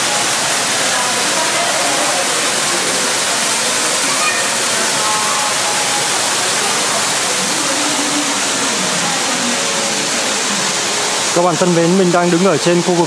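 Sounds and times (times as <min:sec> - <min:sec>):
faint voices: 0:00.0 - 0:13.0
falling water rushing hiss: 0:00.0 - 0:13.0.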